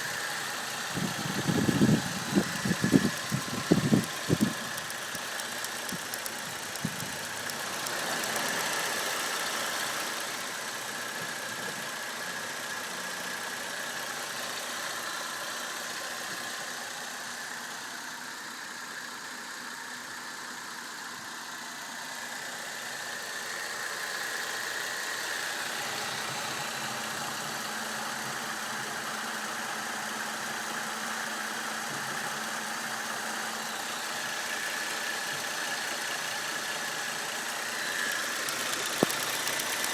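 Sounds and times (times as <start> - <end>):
car engine running steadily: 0.0 - 39.9
engine knocking noise: 0.0 - 39.9.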